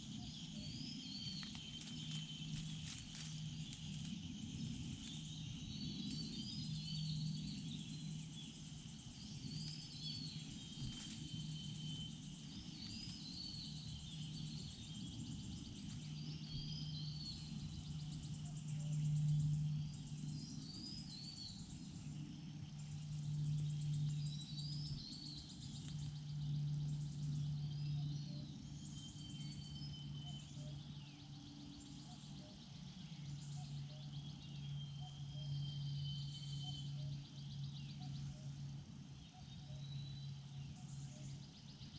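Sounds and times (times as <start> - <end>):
high insect drone: 0.0 - 41.9
low hum: 0.0 - 41.9.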